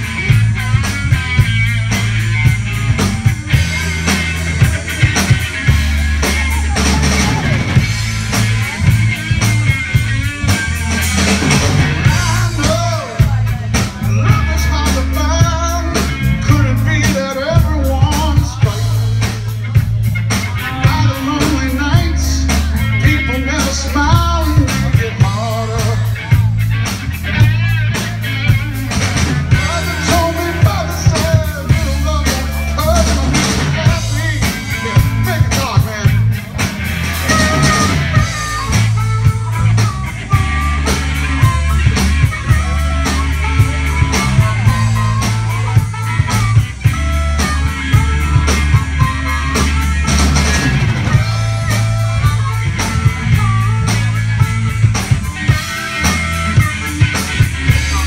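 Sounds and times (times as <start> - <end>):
blues rock band playing: 0.0 - 58.0
harmonica lead: 0.0 - 58.0.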